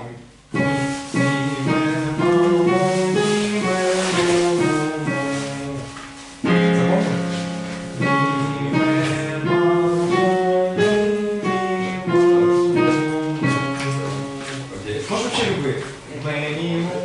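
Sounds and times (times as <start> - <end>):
piano-like chords: 0.0 - 17.0.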